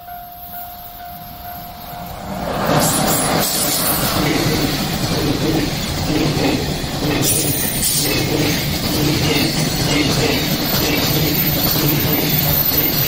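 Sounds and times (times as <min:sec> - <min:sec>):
freight train wheels on rails: 0:00.0 - 0:13.0
high-pitched wheel noise: 0:00.0 - 0:13.0.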